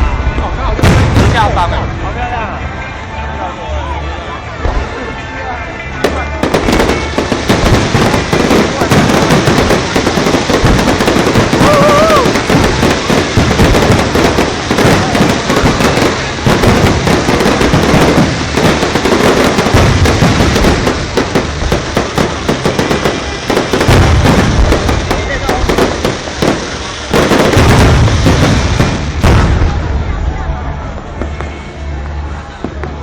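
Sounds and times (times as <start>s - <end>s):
heavy low firework booms: 0.0s - 2.4s, 6.0s - 31.6s
fireworks booming and crackling: 0.0s - 2.9s, 4.6s - 33.0s.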